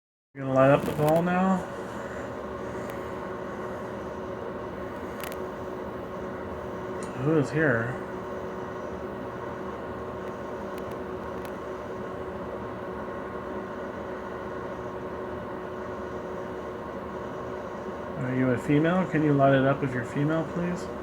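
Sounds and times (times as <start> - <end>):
steady appliance hum: 0.4 - 21.0.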